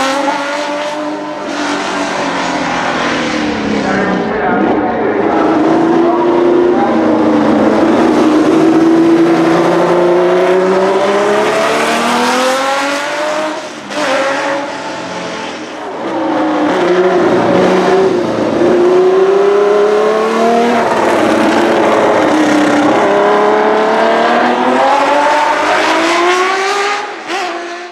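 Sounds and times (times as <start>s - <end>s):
racing car engine revving: 0.0s - 27.9s.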